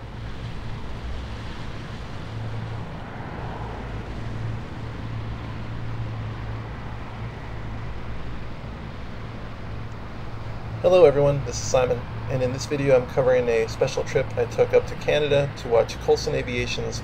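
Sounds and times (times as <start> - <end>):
low engine drone: 0.0 - 17.0
noise wash: 0.0 - 17.0.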